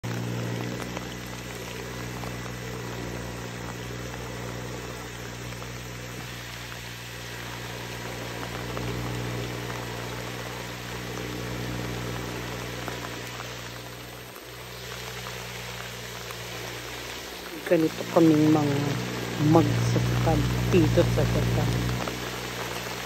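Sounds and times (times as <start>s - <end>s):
rain falling on water: 0.0s - 23.0s
rice transplanter engine running: 0.0s - 23.0s.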